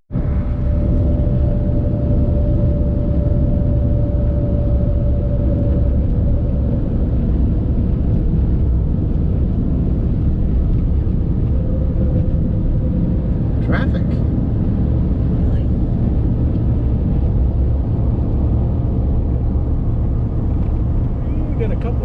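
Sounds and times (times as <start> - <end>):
car whine: 0.1 - 22.0
road and wind noise: 0.1 - 22.0.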